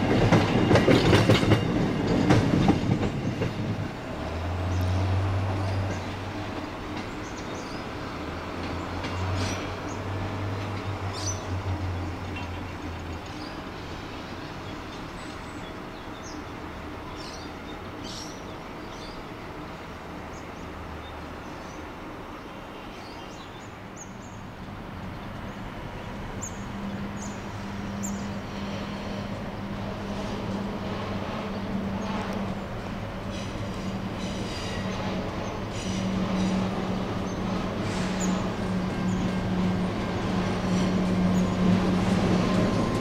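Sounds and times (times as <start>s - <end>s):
approaching locomotive engine: 0.0s - 43.0s
distant locomotive engine hum: 0.0s - 43.0s.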